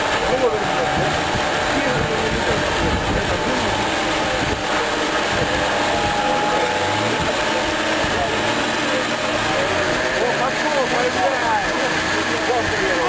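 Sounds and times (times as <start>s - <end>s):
constant rushing noise: 0.0s - 13.0s
vehicle engine running: 0.0s - 13.0s.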